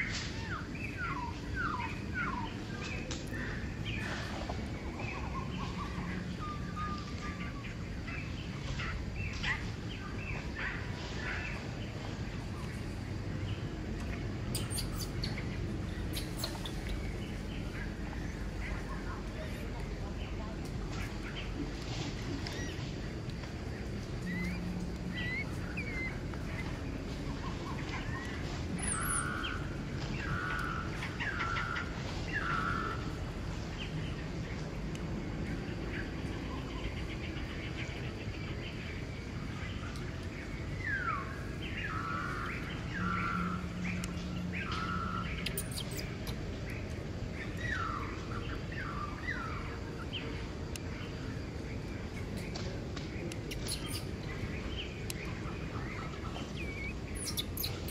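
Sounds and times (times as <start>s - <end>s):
bird calling: 0.0s - 33.1s, 38.8s - 50.4s, 53.2s - 57.9s
outdoor background hum: 0.0s - 57.9s.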